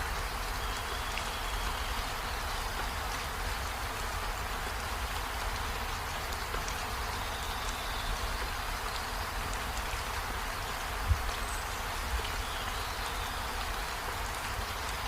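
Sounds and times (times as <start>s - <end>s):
steady rain hiss: 0.0s - 15.0s
raindrop ticks: 0.1s - 15.0s.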